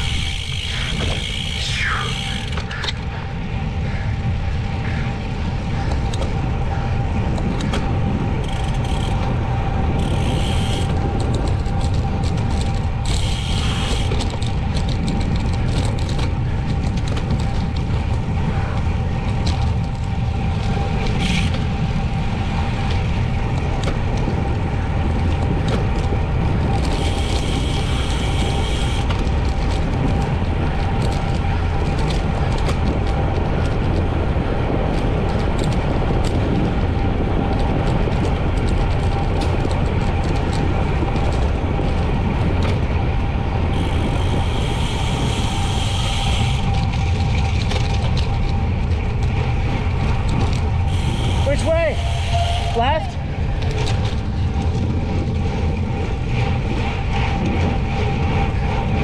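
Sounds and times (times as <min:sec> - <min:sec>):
bicycle road noise: 0:00.0 - 0:59.0
wind buffeting microphone: 0:00.0 - 0:59.0.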